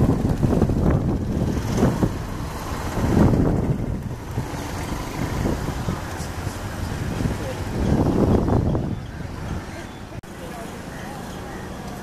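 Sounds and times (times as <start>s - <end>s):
wind buffeting microphone: 0.0s - 10.2s
distant aircraft rumble: 0.0s - 12.0s.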